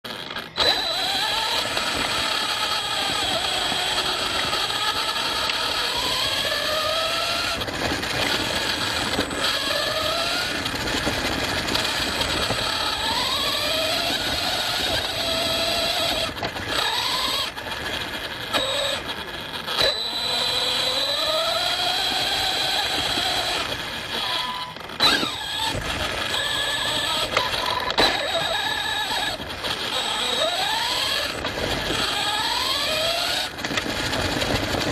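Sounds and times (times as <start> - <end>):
drivetrain and tyres rattling: 0.1 - 34.9
rc car motor whining: 0.1 - 34.9.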